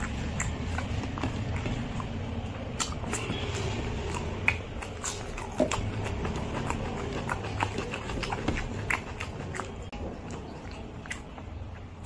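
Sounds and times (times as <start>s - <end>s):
wet chewing and lip smacks: 0.0s - 12.0s.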